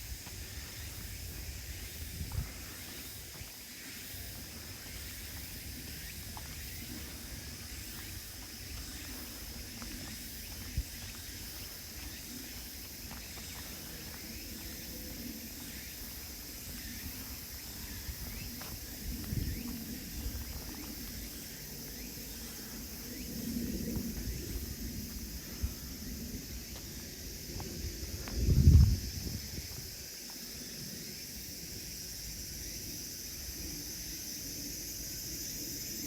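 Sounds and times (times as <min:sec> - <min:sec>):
insects singing: 0:00.0 - 0:36.0.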